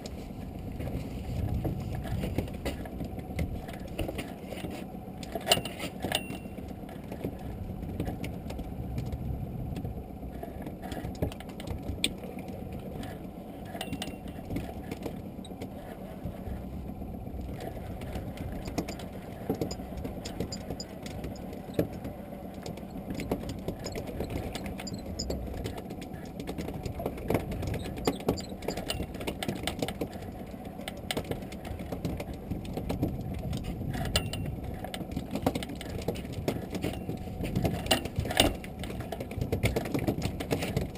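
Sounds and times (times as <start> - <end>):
muffled wind: 0.0 - 40.9.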